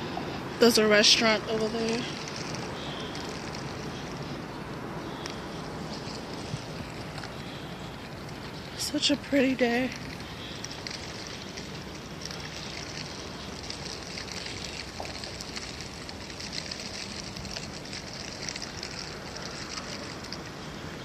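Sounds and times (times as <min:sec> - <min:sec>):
footsteps on outdoor path: 0:00.0 - 0:21.0.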